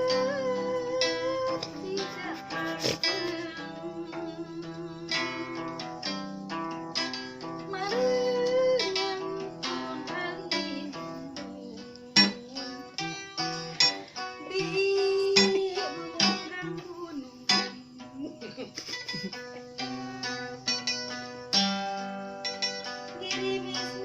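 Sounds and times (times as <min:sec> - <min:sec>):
plucked zither music: 0:00.0 - 0:24.0.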